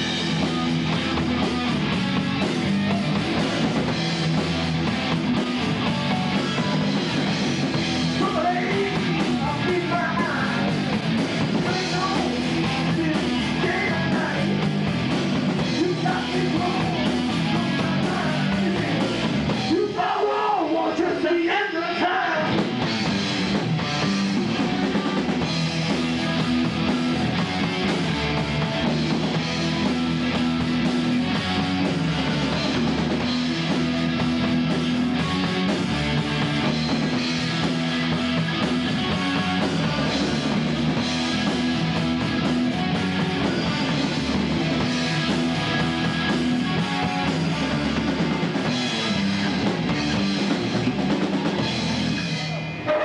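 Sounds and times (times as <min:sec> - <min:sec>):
drum kit beat: 0:00.0 - 0:21.2, 0:22.3 - 0:52.7
electric guitars: 0:00.0 - 0:53.0.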